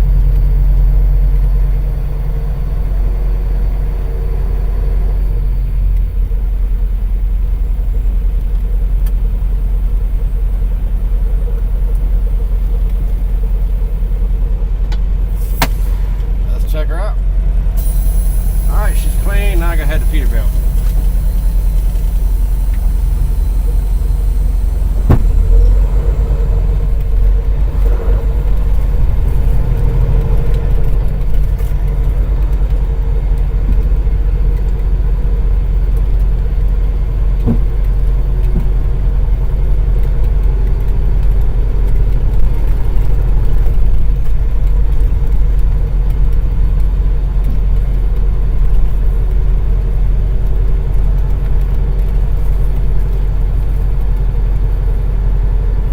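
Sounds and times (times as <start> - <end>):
diesel truck engine rumbling: 0.0 - 55.9.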